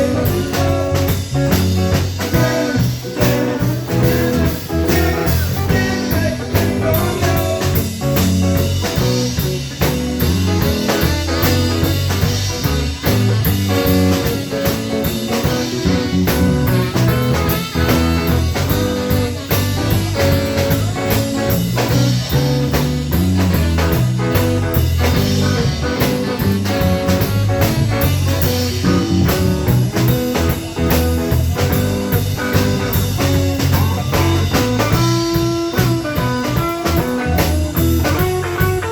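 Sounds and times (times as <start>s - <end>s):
bass: 0.0s - 38.9s
drum kit beat: 0.0s - 38.9s
electric guitar: 0.0s - 38.9s.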